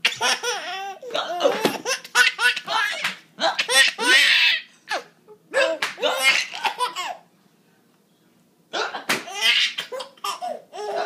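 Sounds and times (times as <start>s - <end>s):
baby laughing: 0.1s - 7.2s, 9.0s - 11.0s.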